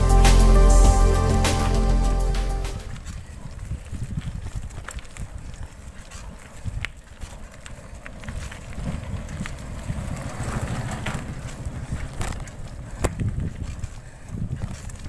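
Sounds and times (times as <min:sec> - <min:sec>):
bicycle tyres rumbling on gravel: 0:02.8 - 0:15.0
wind buffeting microphone: 0:02.8 - 0:15.0.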